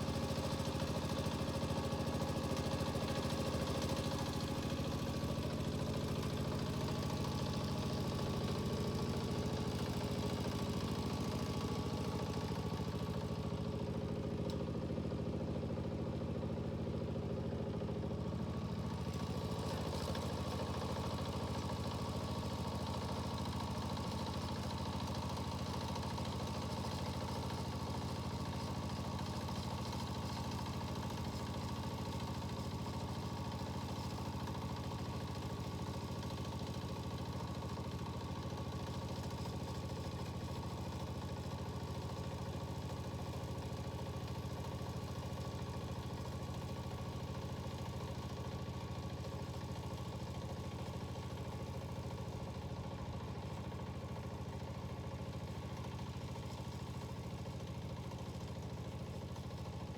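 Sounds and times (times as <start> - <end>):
diesel engine running steadily: 0.0 - 59.8.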